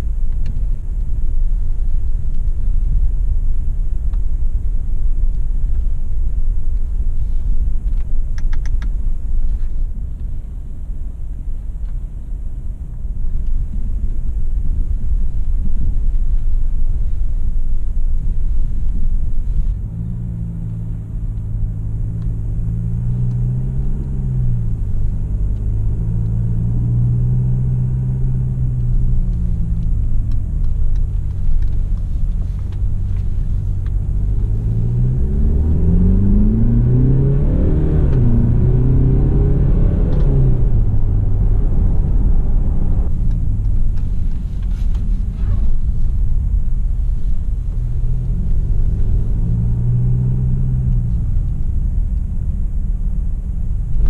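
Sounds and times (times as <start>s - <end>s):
diesel engine accelerating and shifting: 0.0s - 54.0s
steady low rumble: 0.0s - 54.0s.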